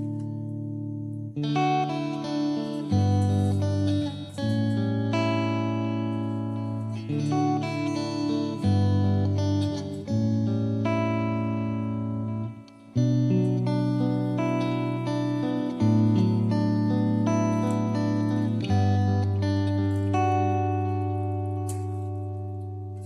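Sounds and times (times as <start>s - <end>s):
instrumental music with sustained chords: 0.0s - 23.0s.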